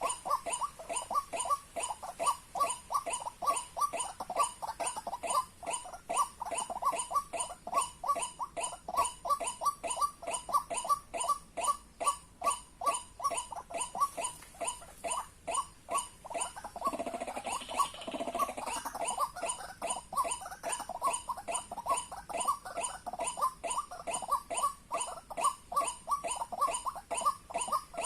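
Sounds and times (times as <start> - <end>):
rough noisy bird call: 0.0 - 28.0
waterhen calling repeated notes: 0.0 - 28.0.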